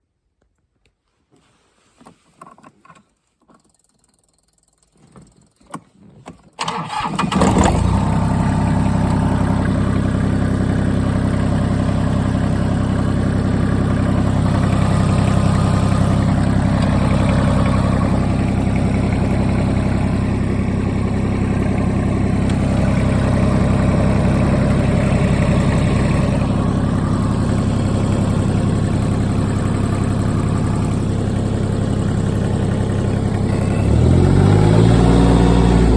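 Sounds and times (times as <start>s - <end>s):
tractor diesel engine idling: 6.6s - 35.9s.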